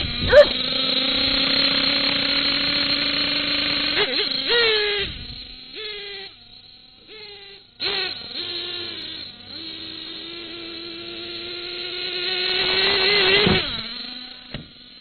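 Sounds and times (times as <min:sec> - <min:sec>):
small engine buzzing at high revs: 0:00.0 - 0:15.0.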